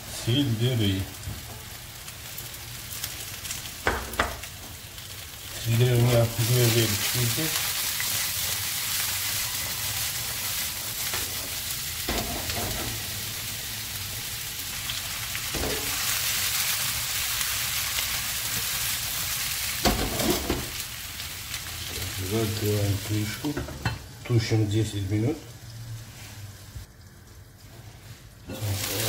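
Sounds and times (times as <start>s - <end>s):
food sizzling in frying pan: 0.0s - 29.0s.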